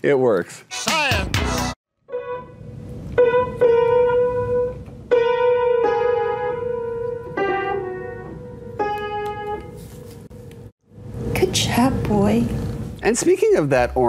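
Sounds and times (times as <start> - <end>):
piano notes: 2.0 - 13.4.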